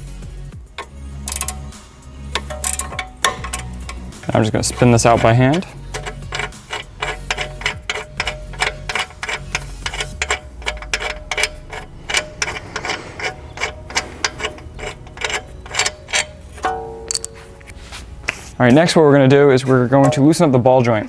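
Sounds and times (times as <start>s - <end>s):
hand ratchet clicking: 0.7s - 17.8s.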